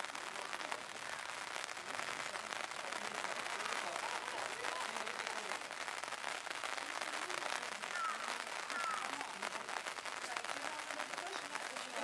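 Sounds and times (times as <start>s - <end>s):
faint voices: 0.0s - 12.0s
rain pattering: 0.0s - 12.0s.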